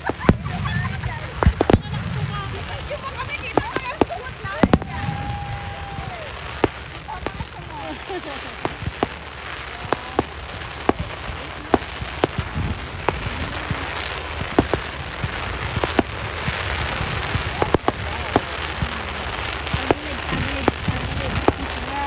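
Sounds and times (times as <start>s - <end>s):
fireworks bangs and pops: 0.0s - 22.0s
fireworks crackling hiss: 0.0s - 22.0s.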